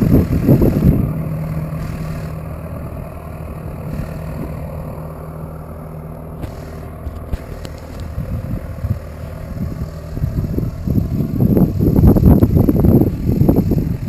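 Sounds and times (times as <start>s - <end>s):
heavy machine engine idling: 0.0s - 14.0s.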